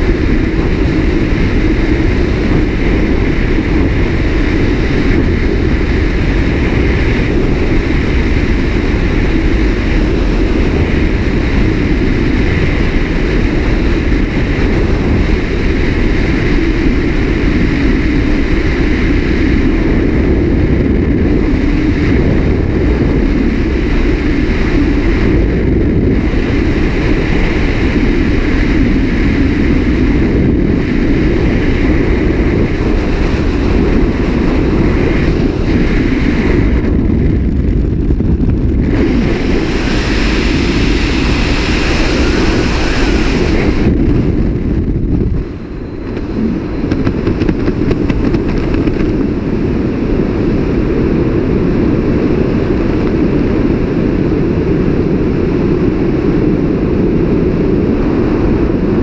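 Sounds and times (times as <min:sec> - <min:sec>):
freefall wind on microphone: 0:00.0 - 0:59.0.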